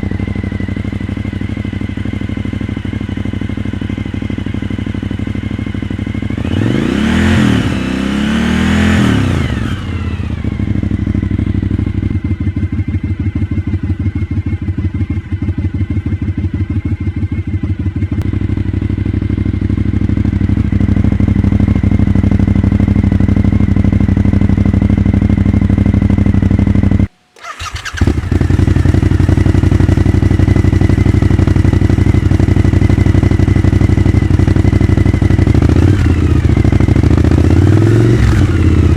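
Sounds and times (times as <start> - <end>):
motorcycle engine pulsing exhaust: 0.0 - 38.9.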